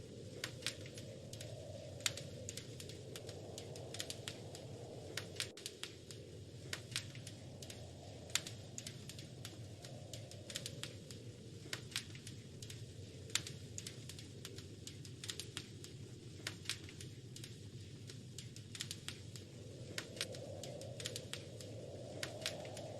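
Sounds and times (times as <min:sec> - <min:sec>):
low rush of flames: 0:00.0 - 0:22.9
wood fire crackling: 0:00.0 - 0:22.9.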